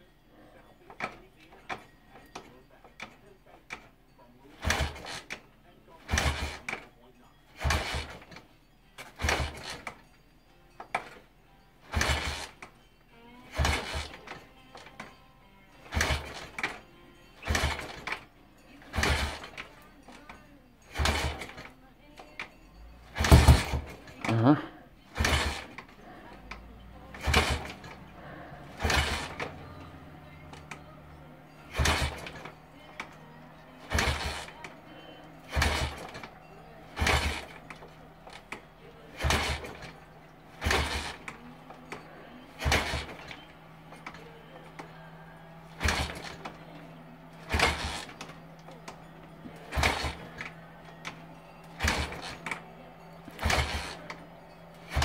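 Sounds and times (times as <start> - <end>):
motorcycle engine turning over: 0.9 - 10.2, 10.8 - 55.0.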